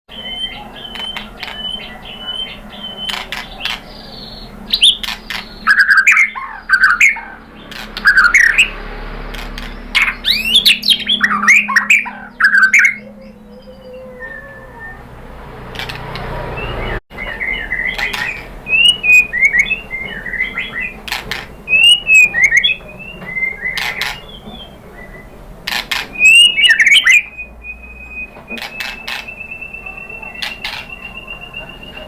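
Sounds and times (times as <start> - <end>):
bird singing whistles and squawks: 0.1 - 8.8, 9.6 - 15.1, 16.6 - 32.0.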